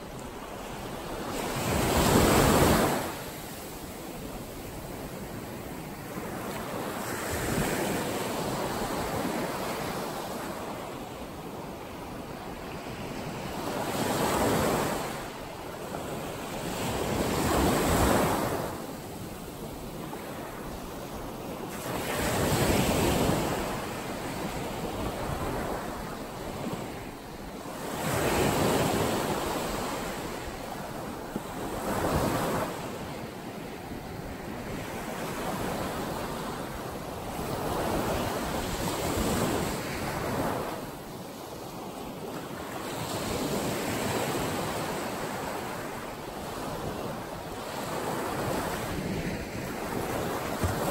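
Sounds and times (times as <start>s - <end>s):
small waves breaking on sand: 0.0s - 50.9s.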